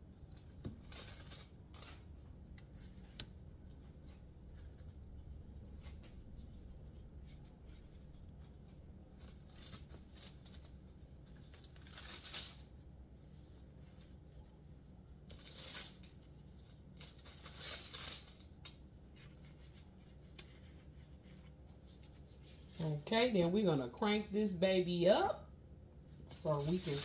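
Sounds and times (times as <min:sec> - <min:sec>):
low steady hum: 0:00.0 - 0:27.0
plastic gloves crinkling: 0:00.1 - 0:23.6, 0:26.0 - 0:27.0.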